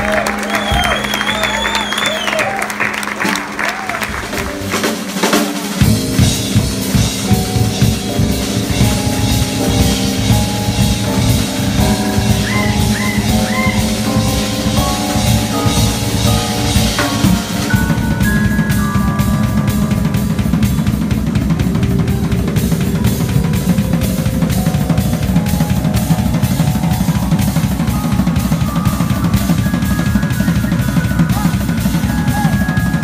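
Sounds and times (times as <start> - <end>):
live band playing: 0.0 - 33.0
held melody notes bending: 4.3 - 33.0.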